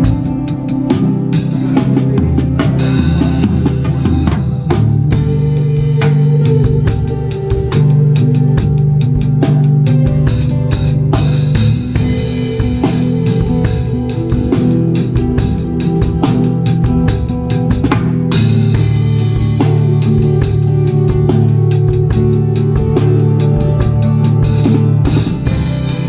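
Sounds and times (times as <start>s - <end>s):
drum kit steady beat: 0.0s - 26.0s
sustained bass and guitar: 0.0s - 26.0s
worship band playing live: 0.0s - 26.0s.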